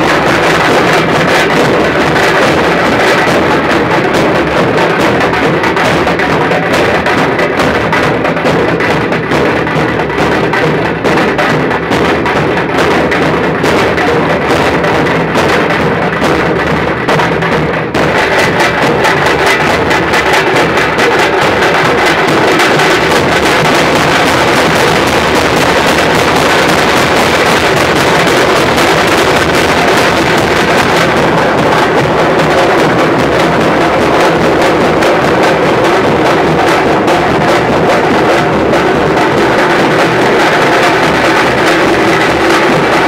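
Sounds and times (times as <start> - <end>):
marching drums: 0.0 - 43.0.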